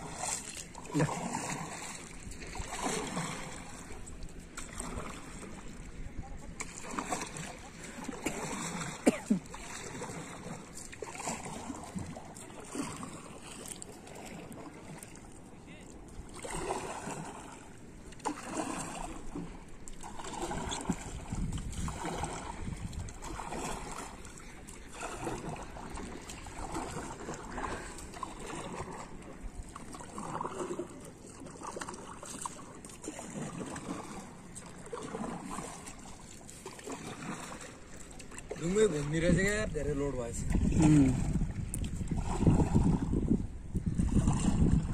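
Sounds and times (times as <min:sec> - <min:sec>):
paddle swishing through water: 0:00.0 - 0:44.9
water washing around hull: 0:00.0 - 0:44.9.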